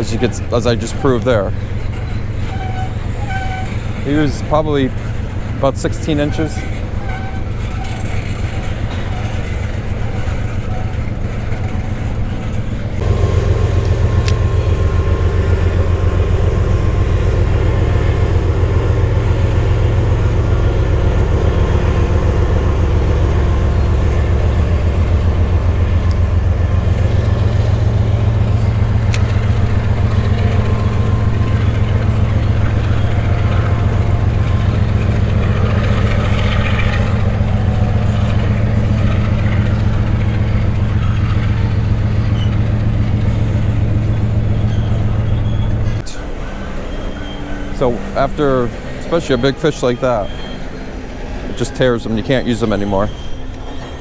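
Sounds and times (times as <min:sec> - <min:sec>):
train engine rumbling: 0:00.0 - 0:54.0.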